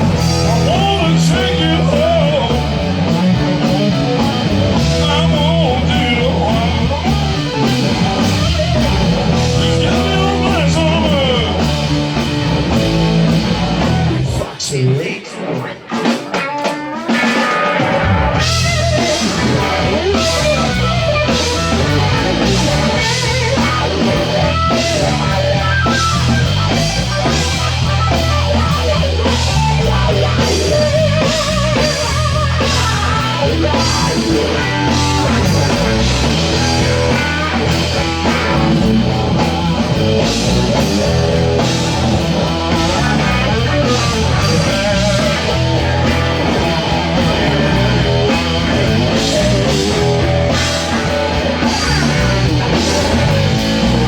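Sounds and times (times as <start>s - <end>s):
low bass line: 0.0s - 14.4s, 18.3s - 54.0s
drums: 0.0s - 54.0s
electric guitar: 0.0s - 54.0s.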